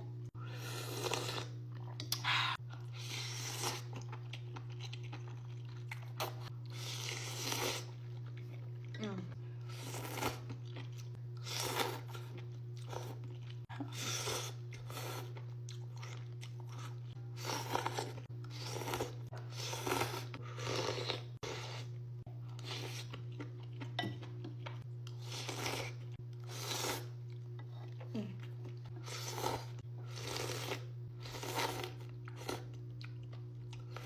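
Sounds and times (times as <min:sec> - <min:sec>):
steady low hum: 0:00.0 - 0:34.0
crunchy food being chewed: 0:00.7 - 0:09.0, 0:09.6 - 0:34.0.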